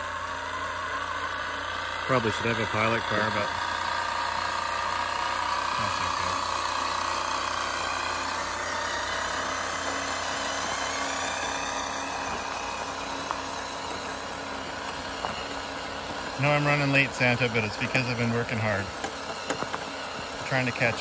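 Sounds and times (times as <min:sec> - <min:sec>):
toy truck motor whine: 0:00.0 - 0:21.0.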